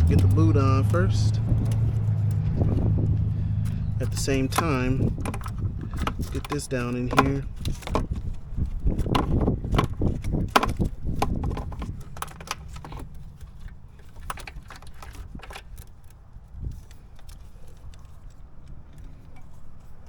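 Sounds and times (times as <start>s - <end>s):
clicks taps and rattles of plastic parts: 0.0s - 20.0s
steady low rumble: 0.0s - 20.0s.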